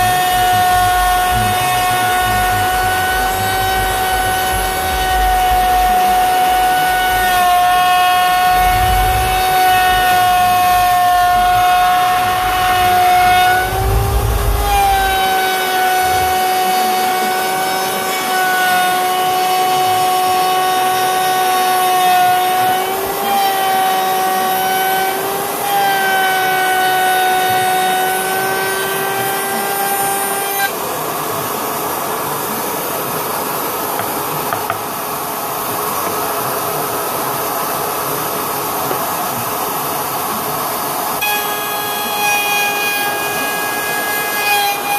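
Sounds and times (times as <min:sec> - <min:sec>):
router whining cutting wood: 0:00.0 - 0:44.9.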